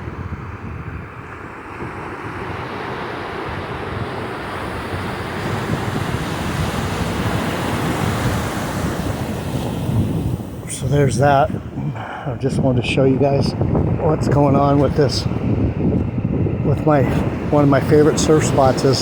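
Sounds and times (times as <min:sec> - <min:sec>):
ocean surf washing in: 0:00.0 - 0:19.0
wind buffeting microphone: 0:00.0 - 0:19.0.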